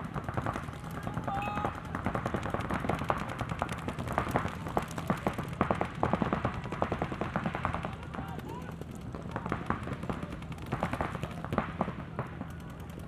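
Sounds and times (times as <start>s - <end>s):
paintball guns firing: 0.0s - 13.0s.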